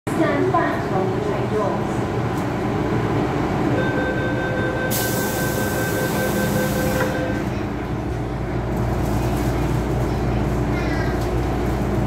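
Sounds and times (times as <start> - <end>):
train carriage rumble: 0.1 - 12.0.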